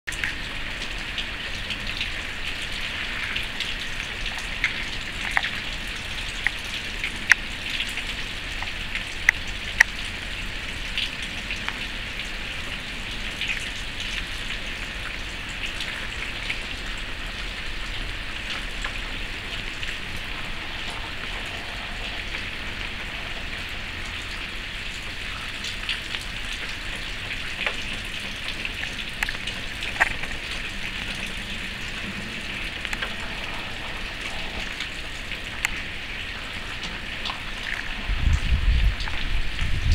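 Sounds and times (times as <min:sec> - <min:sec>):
raindrops ticking close by: 0:00.1 - 0:39.9
steady rain hiss: 0:00.1 - 0:39.9.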